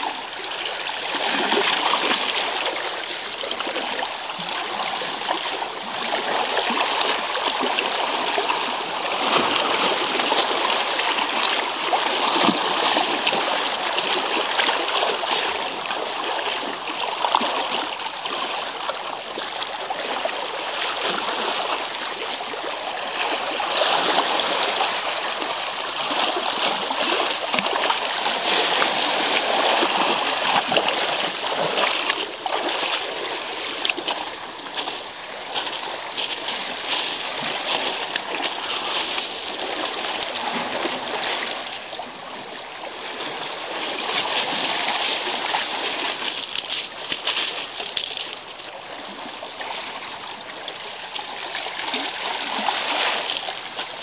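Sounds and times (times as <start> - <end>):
waves washing over rocks: 0.0 - 54.0.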